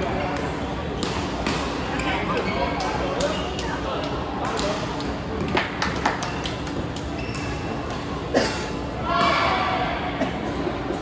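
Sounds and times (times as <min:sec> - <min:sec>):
crowd chatter echoing in a hall: 0:00.0 - 0:11.0.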